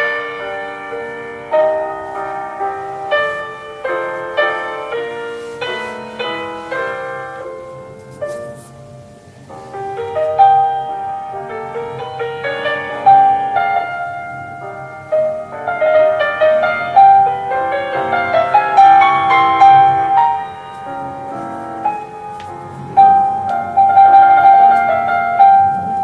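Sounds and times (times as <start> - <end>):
classical piano music: 0.0 - 26.0.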